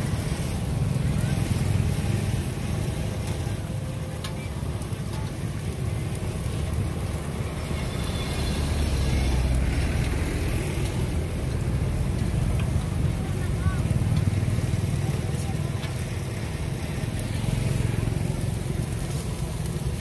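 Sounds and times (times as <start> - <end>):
low rumble of road traffic: 0.0 - 20.0.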